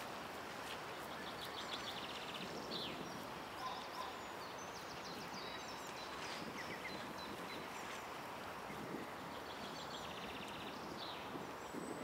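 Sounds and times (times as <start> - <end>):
steady background hiss: 0.0 - 12.0
songbirds trilling and chirping: 0.6 - 12.0.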